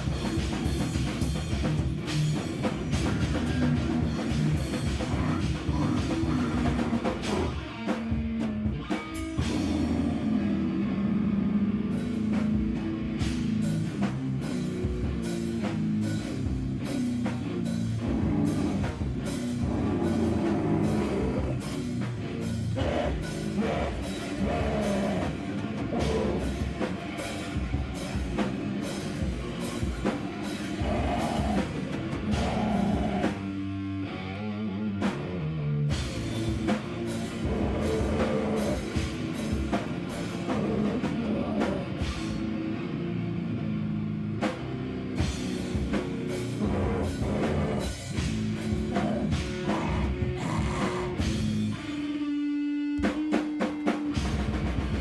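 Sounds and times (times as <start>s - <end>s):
drum kit beat: 0.0s - 10.9s, 11.8s - 33.7s, 35.0s - 42.9s, 44.4s - 55.0s
heavy rock guitar and bass: 0.0s - 55.0s.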